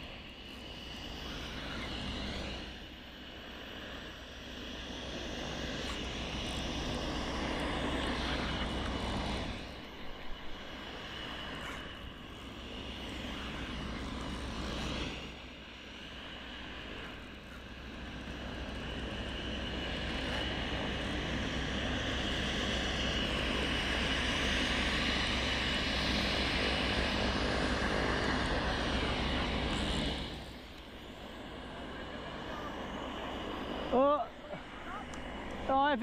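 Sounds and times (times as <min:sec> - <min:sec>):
aeroplane flying over: 0:00.0 - 0:36.0.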